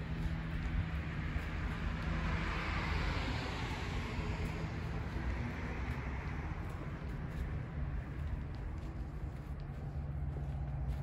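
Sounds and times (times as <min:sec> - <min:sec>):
vehicle passing by: 0:00.0 - 0:09.5
steady low rumble: 0:00.0 - 0:11.0.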